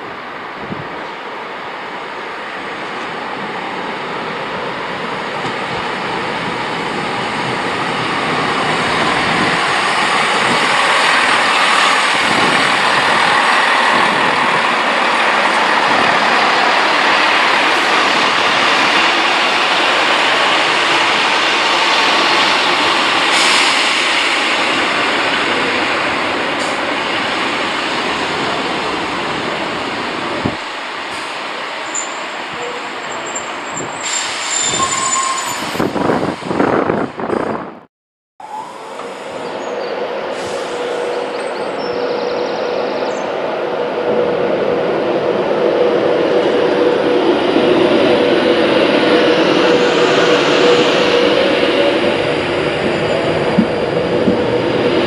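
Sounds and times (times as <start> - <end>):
train engine and wheel noise: 0.0 - 55.0.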